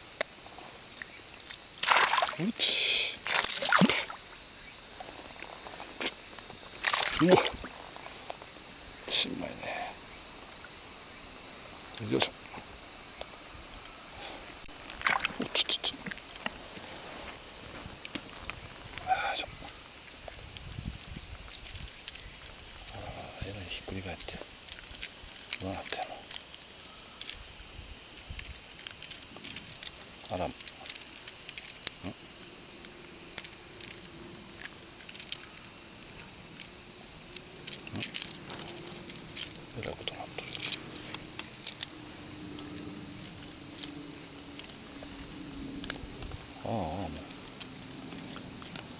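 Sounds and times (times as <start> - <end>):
insects shrilling: 0.0 - 48.9.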